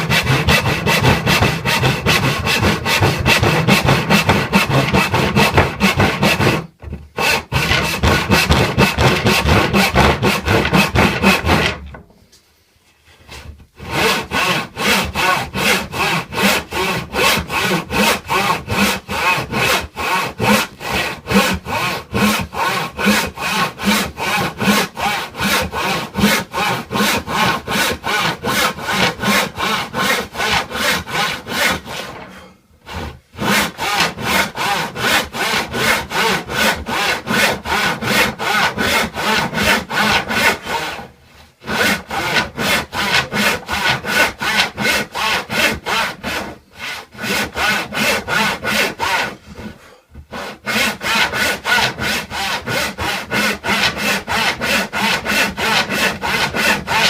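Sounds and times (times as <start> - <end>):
hand saw cutting wood: 0.0 - 12.0, 13.2 - 57.0.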